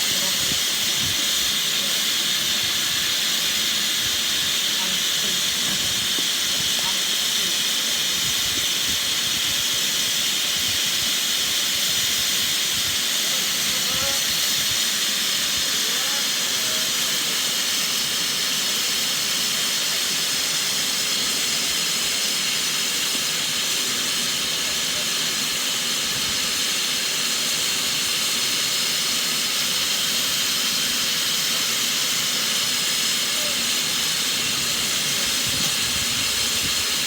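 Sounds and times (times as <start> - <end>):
steam hissing from locomotive: 0.0 - 37.0.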